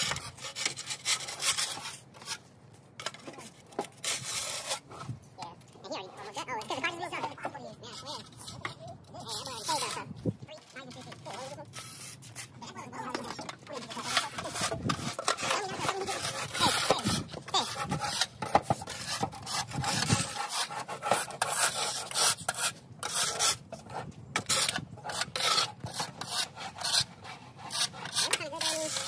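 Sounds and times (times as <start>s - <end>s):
snow shovel scraping concrete: 0.0s - 5.2s, 5.9s - 29.0s.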